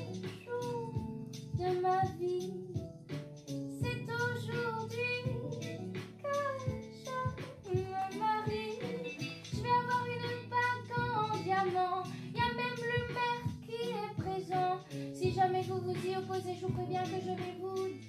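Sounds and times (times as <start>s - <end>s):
woman singing: 0.0s - 2.8s, 3.7s - 18.0s
instrumental accompaniment: 0.0s - 18.0s.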